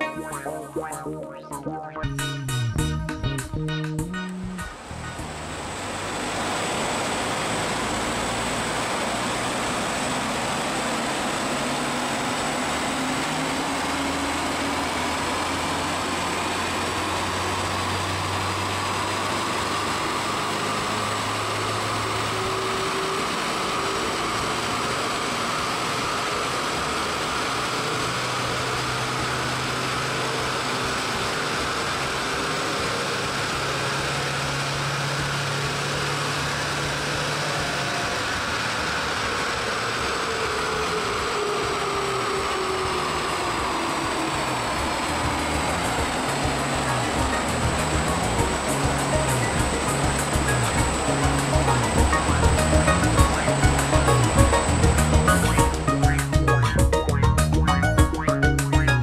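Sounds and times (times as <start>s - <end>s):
diesel engine running under load: 0.0s - 59.0s
rising whine: 0.0s - 59.0s
rush of rollers tyres and fan: 4.6s - 56.2s.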